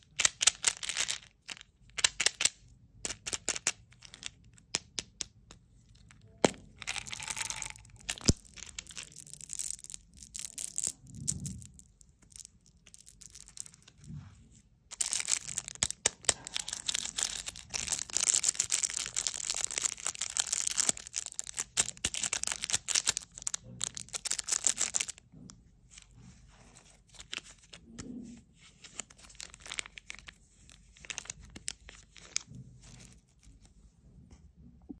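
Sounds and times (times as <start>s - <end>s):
plastic wrapper crinkling and tearing: 0.0s - 4.8s, 6.0s - 14.2s, 14.9s - 25.2s, 26.7s - 28.0s, 28.7s - 33.7s.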